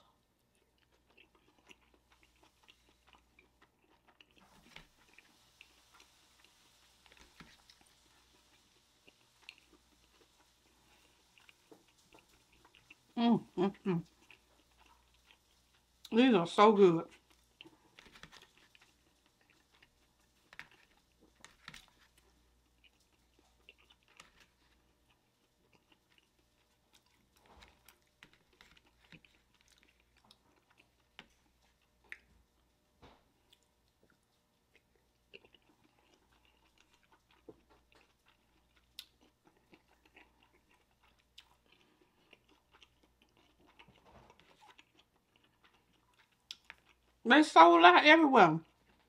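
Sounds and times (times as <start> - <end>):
person chewing: 0.1 - 16.1, 17.1 - 32.7, 33.3 - 47.2.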